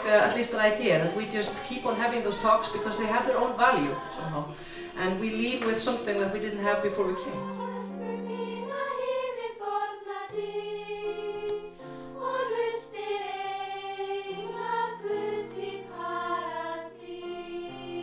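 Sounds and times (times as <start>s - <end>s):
choir singing slow melody: 0.0s - 5.7s, 6.4s - 18.0s.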